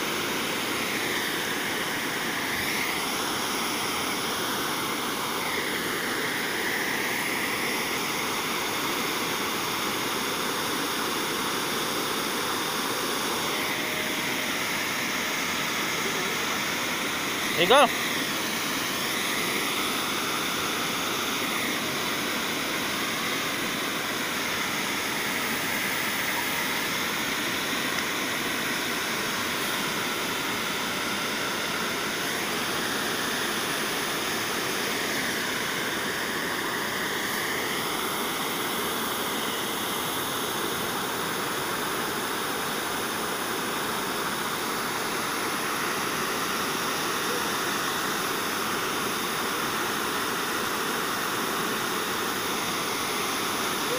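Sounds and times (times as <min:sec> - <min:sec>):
river rapids rushing: 0:00.0 - 0:53.9.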